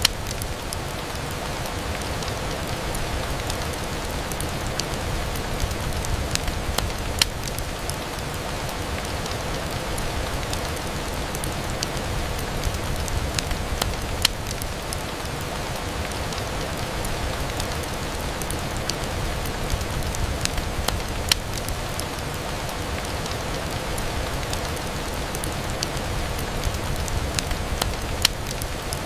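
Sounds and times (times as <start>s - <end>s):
rain on a window: 0.0s - 29.0s.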